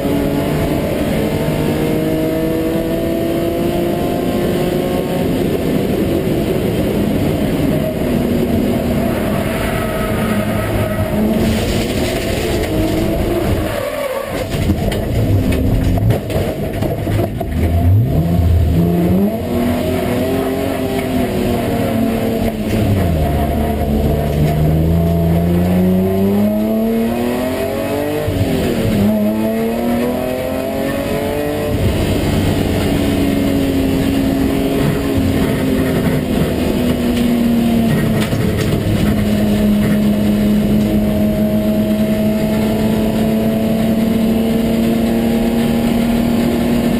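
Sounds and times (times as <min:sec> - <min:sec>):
race car engine revving: 0:00.0 - 0:46.9
road and wind noise: 0:00.0 - 0:46.9.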